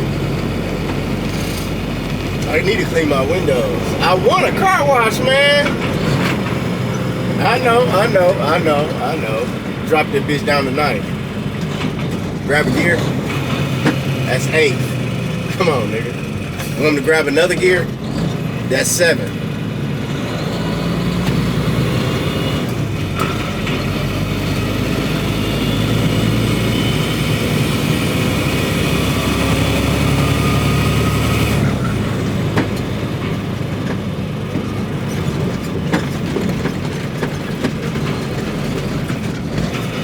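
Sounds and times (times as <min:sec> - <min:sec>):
truck diesel engine pulling: 0:00.0 - 0:40.0.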